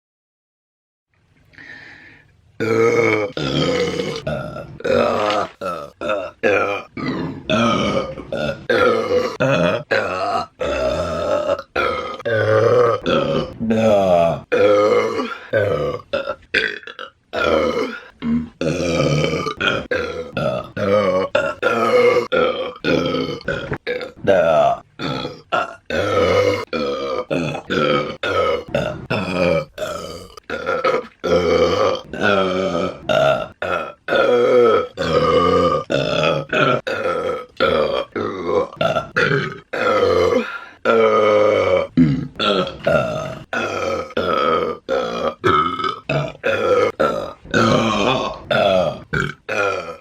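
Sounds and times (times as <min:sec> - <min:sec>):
woman burping loudly: 0:02.6 - 0:50.0.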